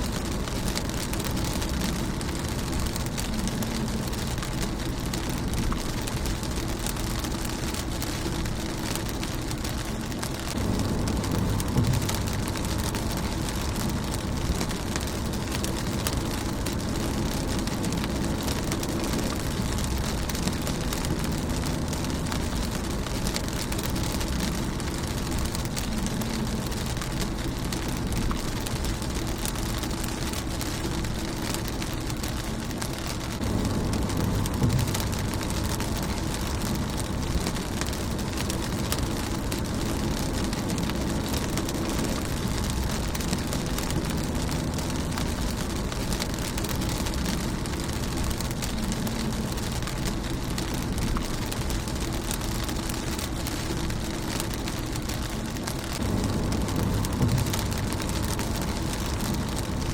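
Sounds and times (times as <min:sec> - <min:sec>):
low rumble: 0:00.0 - 0:59.9
rain on car windshield: 0:00.0 - 0:59.9.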